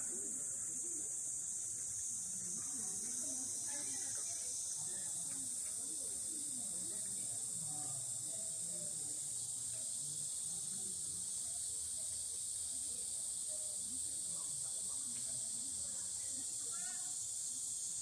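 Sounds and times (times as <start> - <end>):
faint distant voices: 0.0 - 18.0
insects chirping: 0.0 - 18.0.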